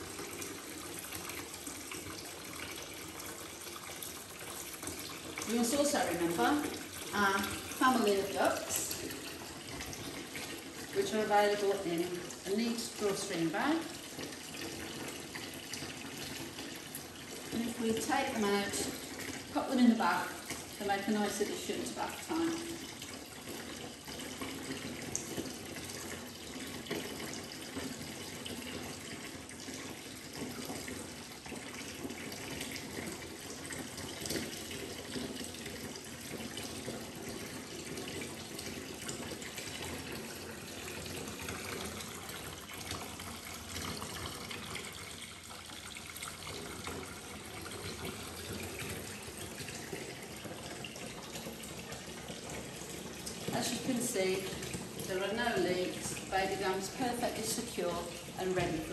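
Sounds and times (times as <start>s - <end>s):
water running from bath tap: 0.0s - 58.9s.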